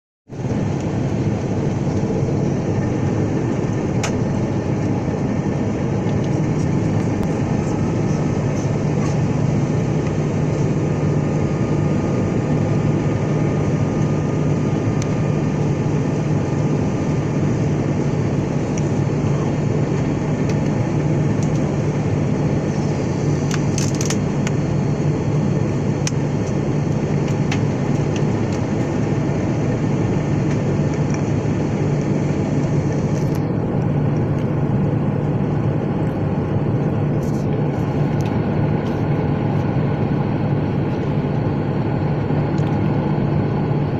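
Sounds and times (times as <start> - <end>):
airliner cabin drone: 0.3 - 43.9.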